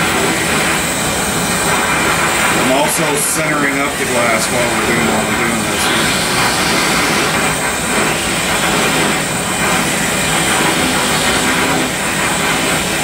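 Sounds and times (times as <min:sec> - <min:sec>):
torch flame rushing: 0:00.0 - 0:13.0.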